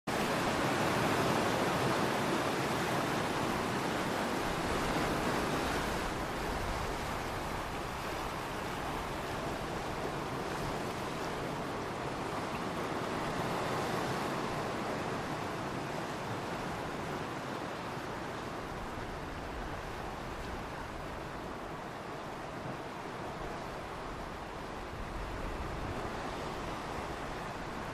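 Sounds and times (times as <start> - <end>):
ocean waves washing onto shore: 0.1 - 27.9.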